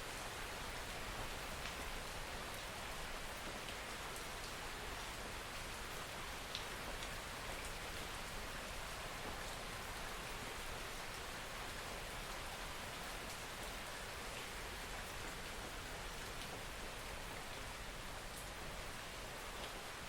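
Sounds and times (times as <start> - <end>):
soft rain falling: 0.0 - 20.0.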